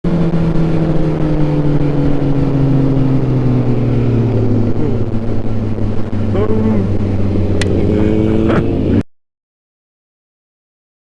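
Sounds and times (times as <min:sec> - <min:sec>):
wind noise: 0:00.0 - 0:09.0
motorcycle engine revs falling: 0:00.2 - 0:09.0.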